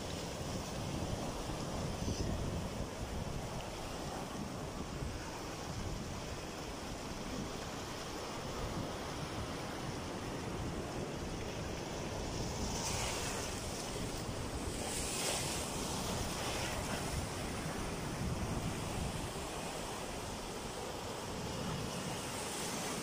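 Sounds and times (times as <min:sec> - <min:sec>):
surf washing over rocks: 0:00.0 - 0:23.0.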